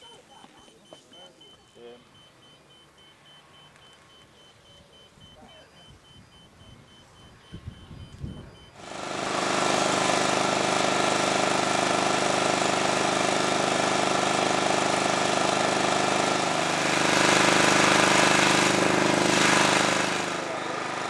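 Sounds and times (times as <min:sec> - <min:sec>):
petrol generator running: 0:00.0 - 0:21.0.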